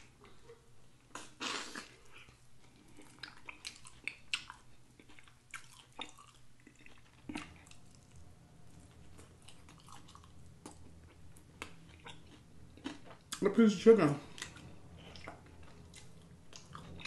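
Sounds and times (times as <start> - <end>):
man chewing and smacking: 0.0 - 13.4, 14.2 - 17.0.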